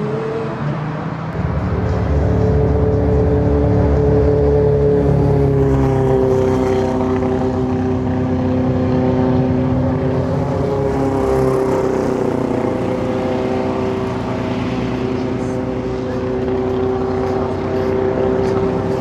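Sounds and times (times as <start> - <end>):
distant racing car engines: 0.0 - 19.0.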